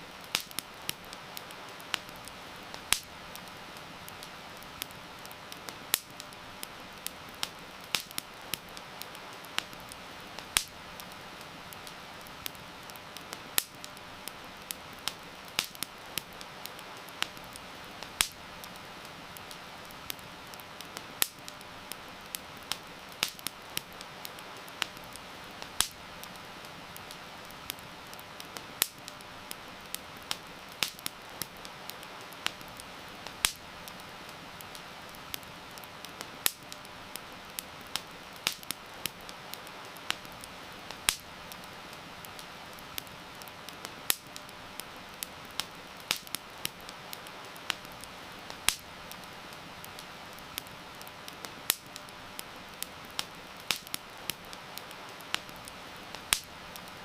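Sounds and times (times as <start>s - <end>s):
campfire crackling and popping: 0.0s - 57.0s
heavy rain hiss: 0.0s - 57.0s.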